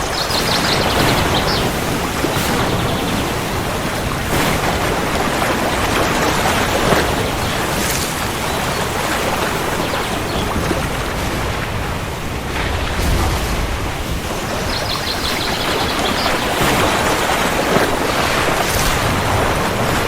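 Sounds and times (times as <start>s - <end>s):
heavy rain falling: 0.0s - 20.0s
thunder rumble: 0.0s - 20.0s.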